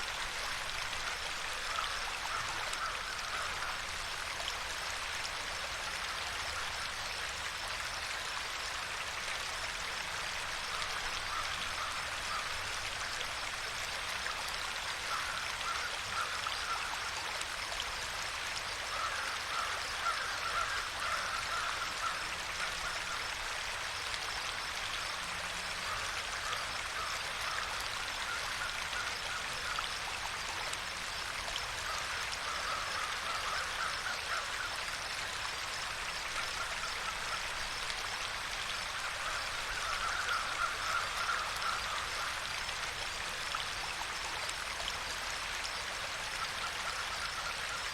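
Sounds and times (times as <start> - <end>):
water flowing in a stream: 0.0 - 47.9.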